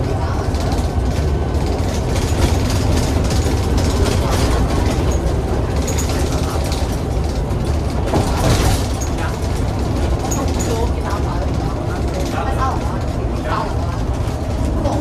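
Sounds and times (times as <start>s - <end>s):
bus body rattling: 0.0s - 15.0s
diesel bus engine rumble: 0.0s - 15.0s
road noise: 0.0s - 15.0s.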